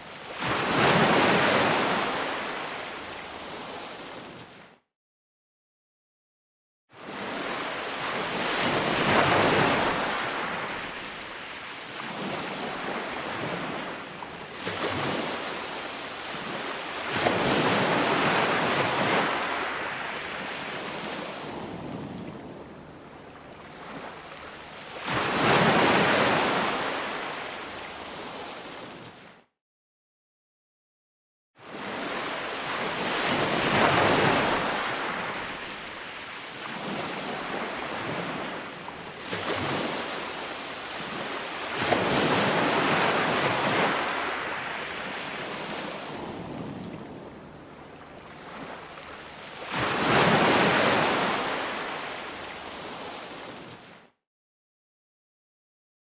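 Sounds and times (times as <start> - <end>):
ocean waves breaking: 0.1 - 4.6, 7.0 - 29.3, 31.6 - 54.0.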